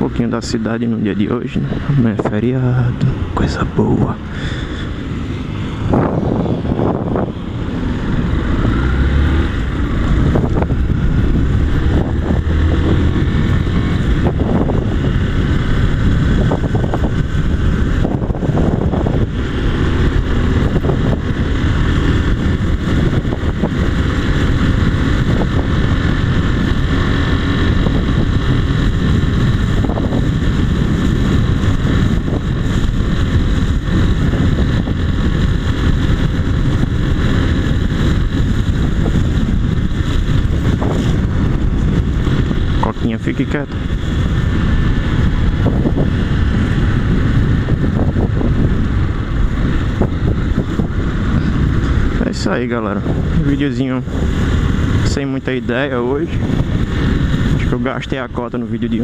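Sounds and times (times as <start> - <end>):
motorcycle engine running: 0.0 - 59.0
wind rushing past microphone: 0.0 - 59.0.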